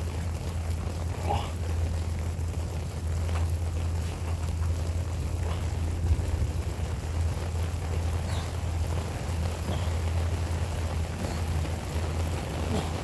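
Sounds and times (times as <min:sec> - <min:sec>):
continuous low rumble: 0:00.0 - 0:13.0
rain falling: 0:00.0 - 0:13.0.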